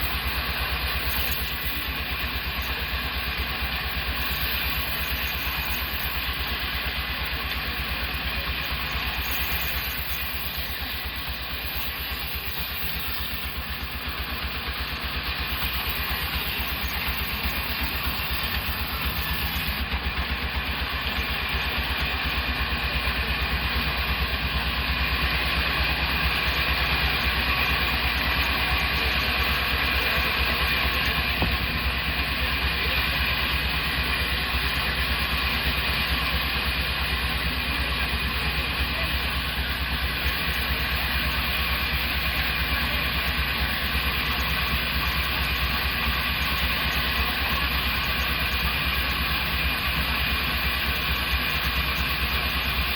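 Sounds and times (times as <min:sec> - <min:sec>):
sawmill machine drone: 0:00.0 - 0:52.9.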